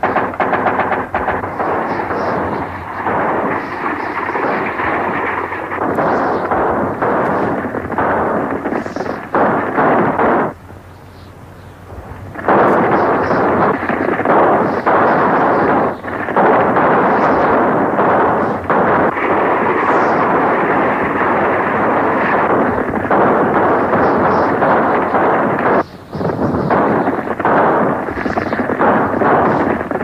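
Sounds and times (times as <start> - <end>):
horses galloping: 0.0 - 10.6, 11.9 - 30.0
gunfire: 0.0 - 30.0.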